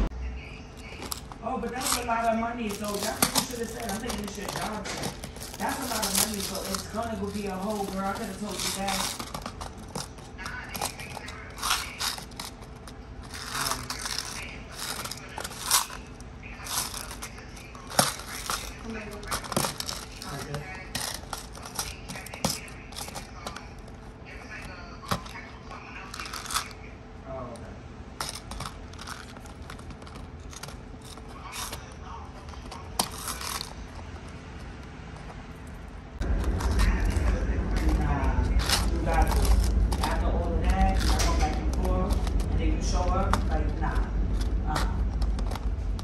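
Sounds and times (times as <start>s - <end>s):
plastic boxes clicking and scraping: 0.8s - 25.4s, 28.2s - 35.4s, 36.2s - 46.0s
small charms rattling: 0.8s - 26.8s, 28.2s - 46.0s.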